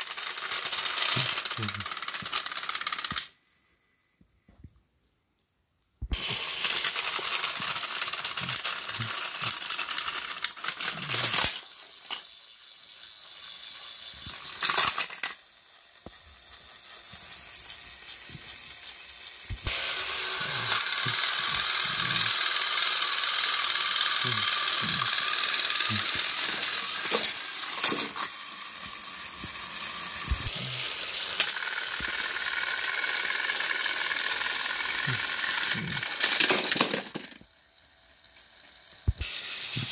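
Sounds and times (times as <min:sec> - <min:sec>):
wheels rattling on plastic track: 0:00.0 - 0:03.3, 0:06.2 - 0:39.9
toy train motors whirring: 0:00.0 - 0:04.1, 0:06.1 - 0:39.9.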